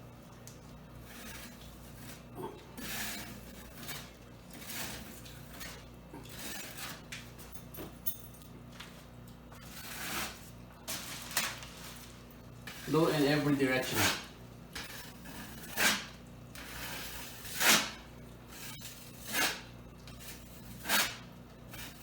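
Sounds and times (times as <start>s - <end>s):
drywall knife scraping: 0.9s - 7.2s, 9.5s - 22.0s.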